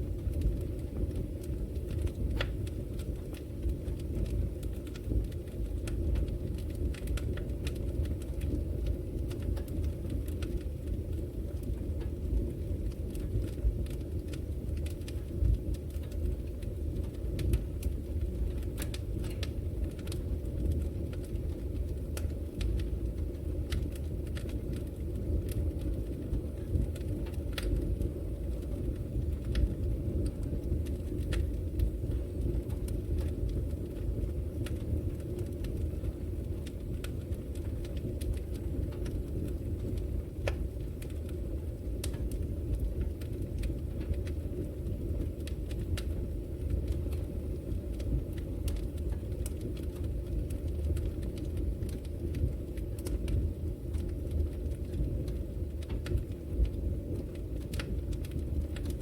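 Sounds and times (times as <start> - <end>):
wood fire crackling in fireplace: 0.0 - 59.0.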